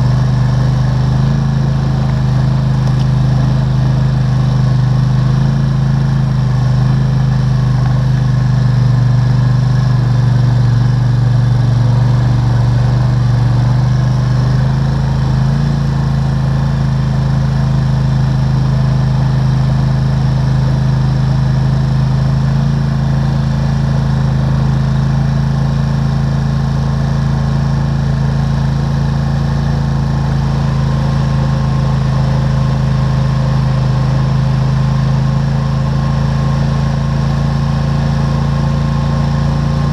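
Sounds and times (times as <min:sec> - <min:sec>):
four-wheeler engine running: 0:00.0 - 0:39.9.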